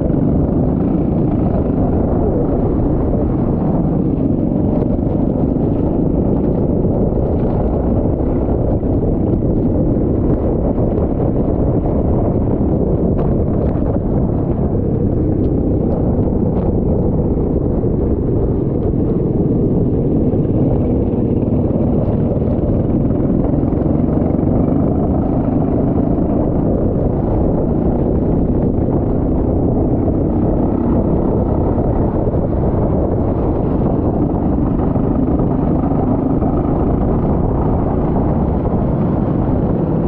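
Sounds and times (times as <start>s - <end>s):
kart engine running: 0.0s - 40.0s.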